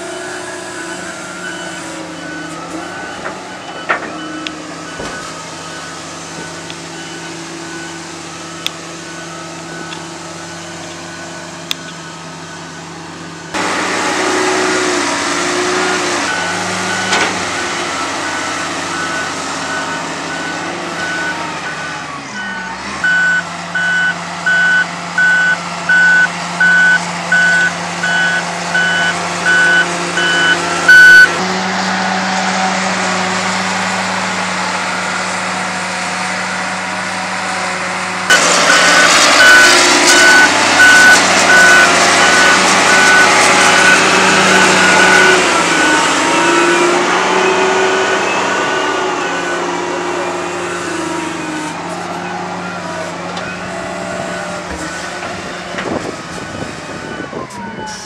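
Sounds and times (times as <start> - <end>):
reversing alarm beeping: 0.0 - 13.6, 15.6 - 31.4, 38.3 - 58.0
diesel engine running: 0.0 - 58.0.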